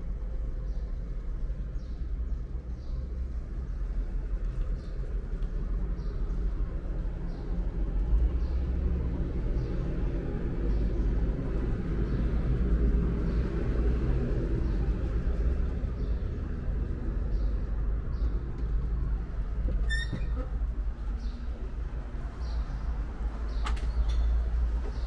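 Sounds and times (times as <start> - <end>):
cable car rumble and hiss: 0.0 - 25.0.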